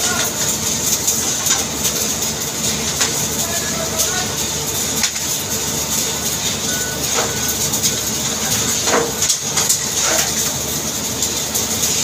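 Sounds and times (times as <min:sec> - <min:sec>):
machine noise with hiss: 0:00.0 - 0:12.0.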